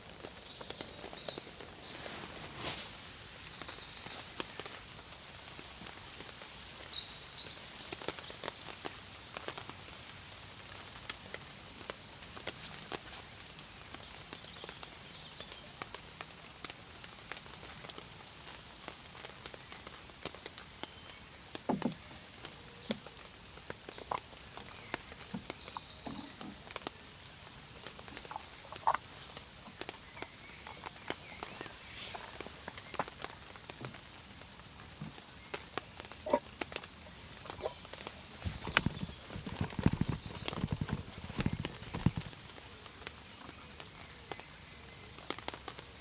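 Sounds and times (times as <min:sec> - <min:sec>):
light rain hiss: 0:00.0 - 0:46.0
raindrops plinking: 0:00.0 - 0:46.0.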